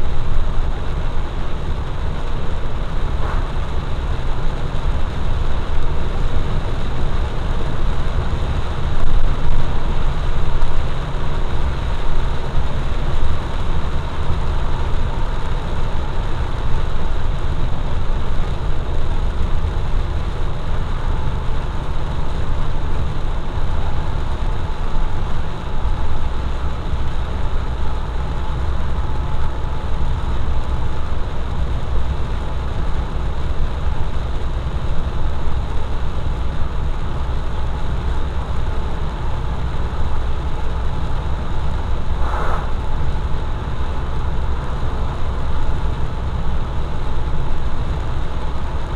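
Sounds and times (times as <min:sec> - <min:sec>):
engine and road rumble: 0:00.0 - 0:48.9
tyre hiss on wet road: 0:00.2 - 0:48.9.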